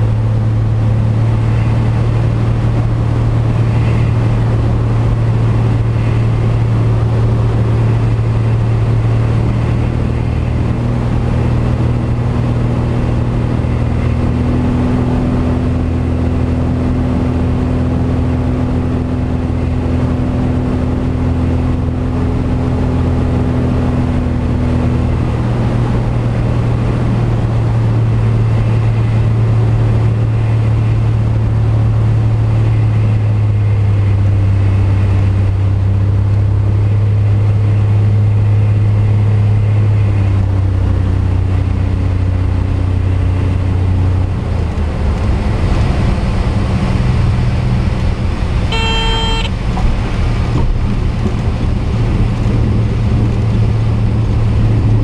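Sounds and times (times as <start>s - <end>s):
propeller aircraft engine droning: 0.0s - 55.0s.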